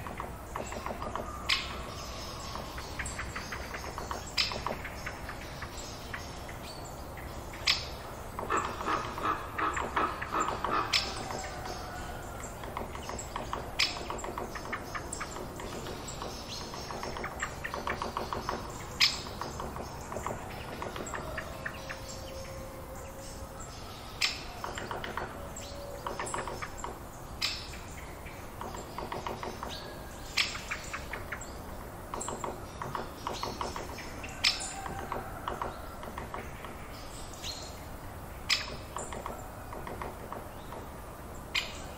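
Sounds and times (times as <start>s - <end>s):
birds chirping and calling: 0.0s - 41.9s.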